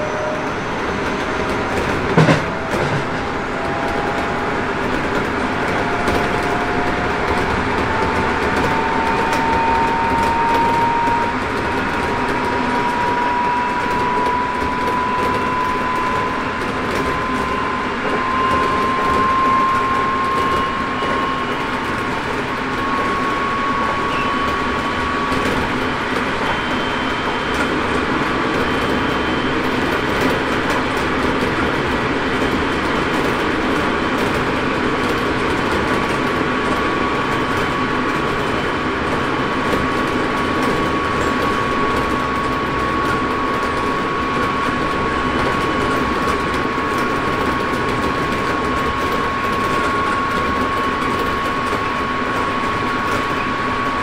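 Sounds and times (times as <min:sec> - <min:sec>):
high electric motor whine: 0:00.0 - 0:54.0
train wheels rumbling on rail: 0:00.0 - 0:54.0.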